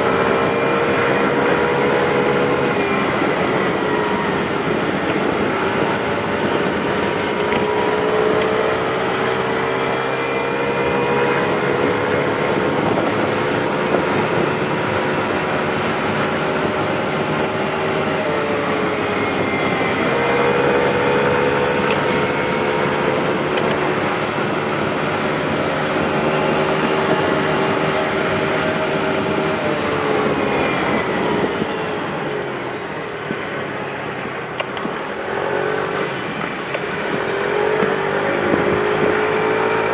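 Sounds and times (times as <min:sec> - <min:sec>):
high-pitched whine: 0:00.0 - 0:39.9
scooter engine running: 0:00.0 - 0:39.9.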